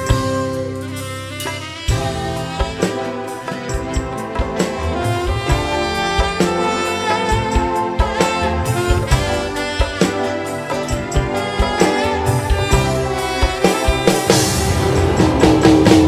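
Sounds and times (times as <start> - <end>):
keyboard and bass: 0.0 - 16.0
melodic lead line: 0.0 - 16.0
steady drum strikes: 0.0 - 16.0.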